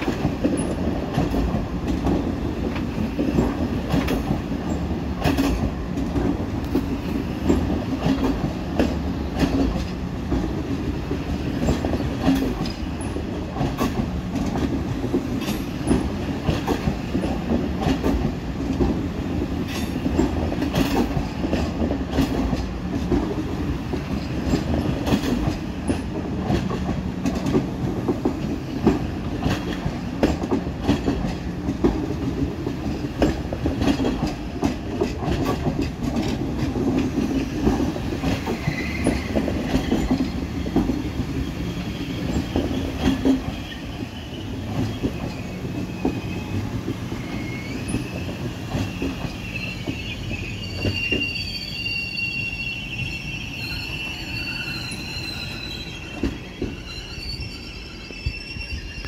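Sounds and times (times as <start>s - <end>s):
wheels clacking over rail joints: 0.0s - 51.5s
train low rumble: 0.0s - 59.0s.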